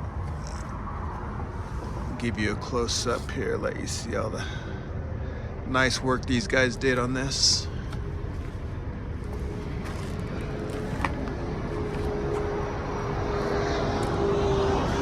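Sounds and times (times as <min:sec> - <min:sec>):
engine rumbling with whine: 0:00.0 - 0:15.0.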